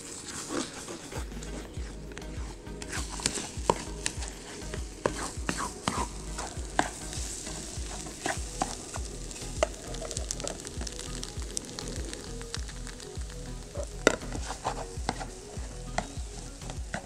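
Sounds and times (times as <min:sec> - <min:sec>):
eggs sizzling: 0:00.0 - 0:17.0.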